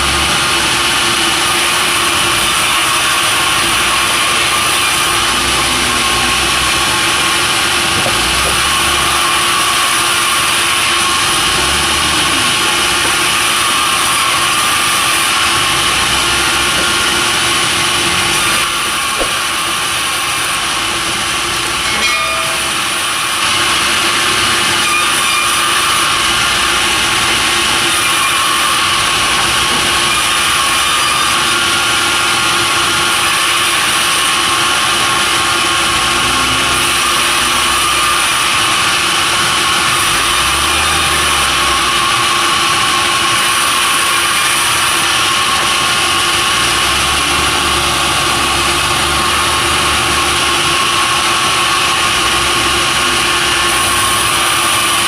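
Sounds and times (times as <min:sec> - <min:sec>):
sawmill saw cutting timber: 0:00.0 - 0:55.0.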